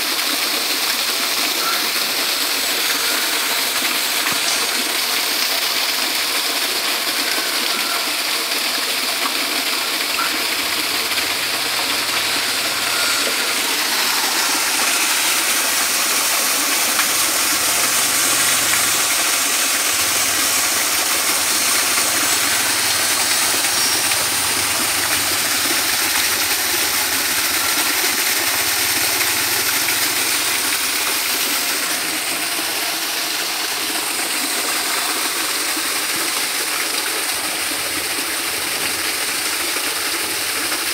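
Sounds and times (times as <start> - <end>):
waterfall splashing into pool: 0.0 - 40.9.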